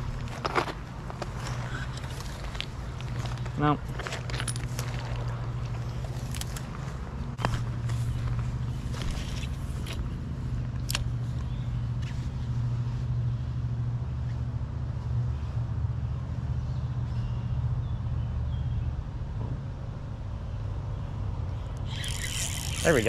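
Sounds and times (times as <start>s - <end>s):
highway traffic rumble: 0.0s - 23.0s.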